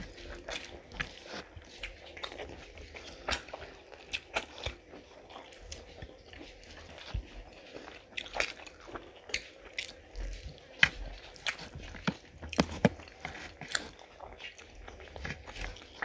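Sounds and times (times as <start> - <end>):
wet chewing and smacking: 0.0 - 16.0.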